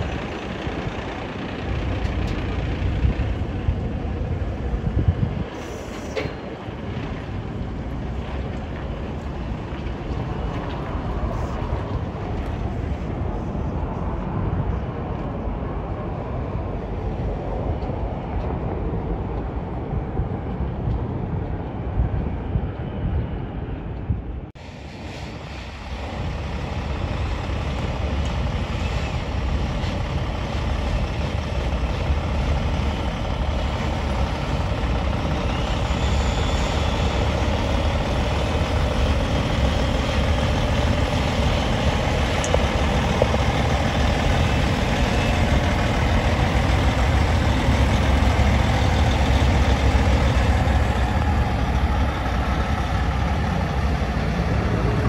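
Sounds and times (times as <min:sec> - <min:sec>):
truck diesel engine rumbling: 0:00.0 - 0:20.3, 0:24.5 - 0:55.0.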